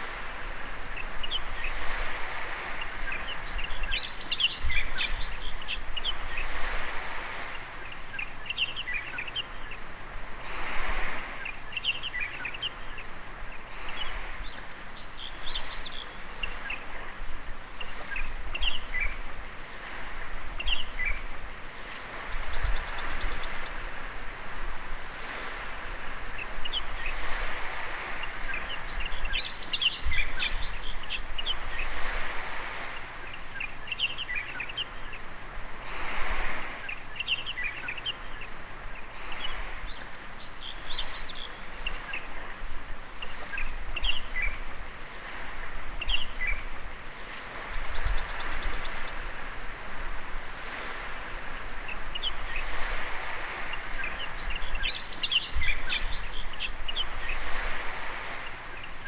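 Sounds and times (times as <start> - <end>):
small waves washing ashore: 0.0 - 59.0.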